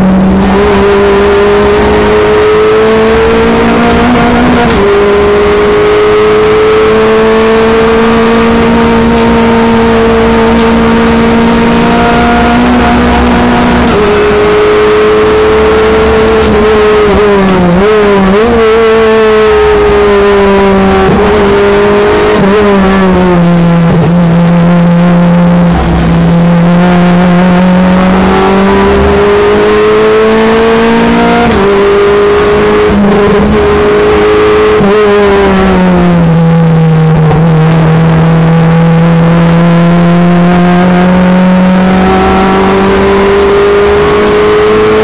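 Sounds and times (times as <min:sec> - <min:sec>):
race car engine at full throttle: 0:00.0 - 0:45.0.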